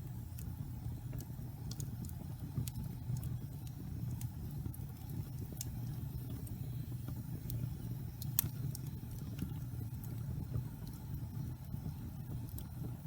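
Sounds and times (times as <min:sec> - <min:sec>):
fire rumbling in fireplace: 0:00.0 - 0:13.0
logs crackling and popping: 0:00.0 - 0:13.0.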